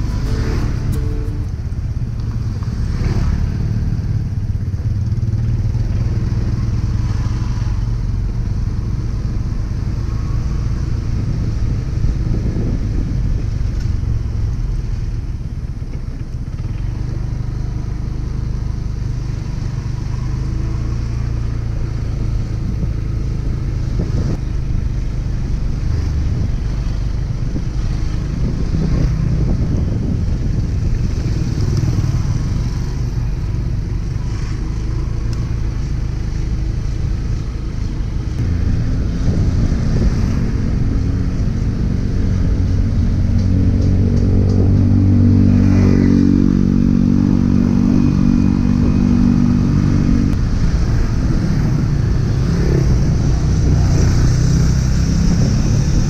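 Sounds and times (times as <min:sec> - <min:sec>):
motorcycle engine running: 0:00.0 - 0:56.0
road rumble: 0:00.0 - 0:56.0.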